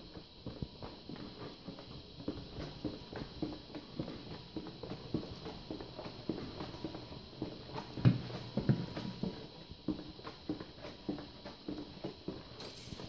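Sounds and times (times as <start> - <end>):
footsteps on concrete floor: 0.0 - 13.0.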